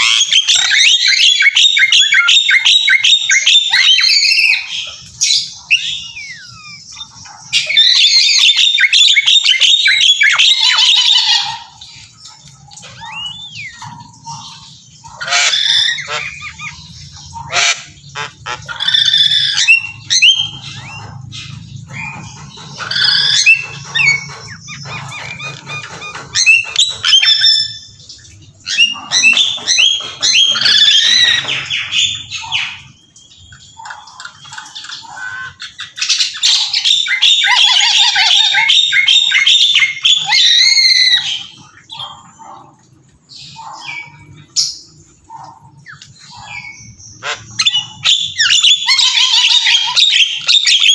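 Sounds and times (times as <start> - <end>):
birds squawking and chirping: 0.0 - 50.9.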